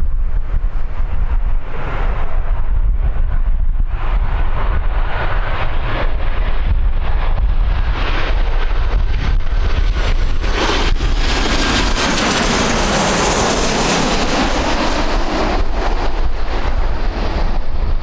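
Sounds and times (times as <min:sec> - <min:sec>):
jet engines passing overhead: 0:00.0 - 0:18.0
wind rumble on microphone: 0:00.0 - 0:18.0.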